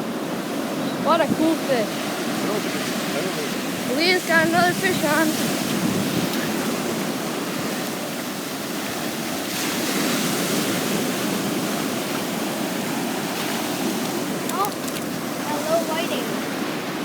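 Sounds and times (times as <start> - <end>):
surf breaking on sand beach: 0.0 - 17.0.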